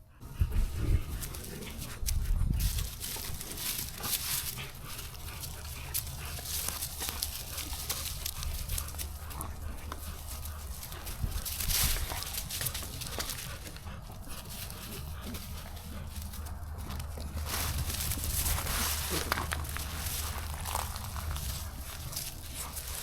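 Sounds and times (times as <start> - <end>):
steady low rumble: 0.0 - 23.0
dogs scuffling: 0.5 - 23.0.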